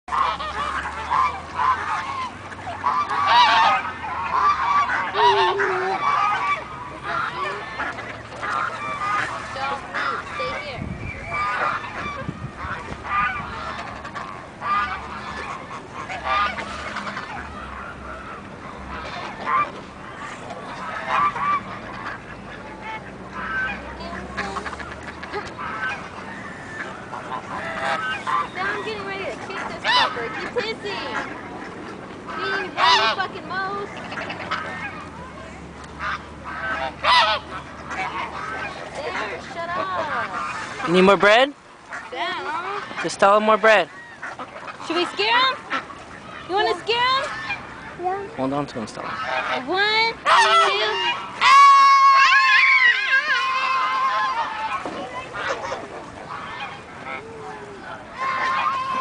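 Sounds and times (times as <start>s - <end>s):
geese honking: 0.1s - 59.0s.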